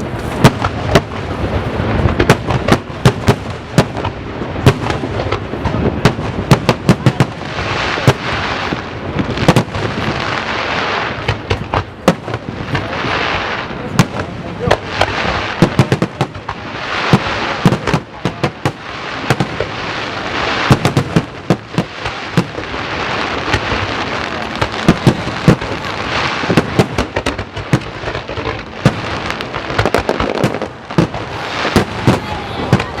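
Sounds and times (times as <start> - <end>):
continuous hiss: 0.0 - 33.0.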